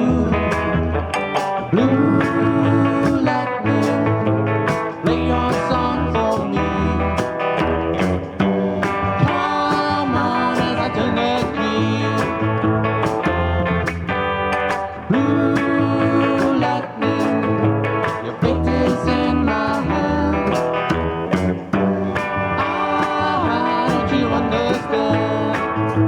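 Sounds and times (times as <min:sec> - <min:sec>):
bending sliding guitar notes: 0:00.0 - 0:26.0
blues band playing: 0:00.0 - 0:26.0.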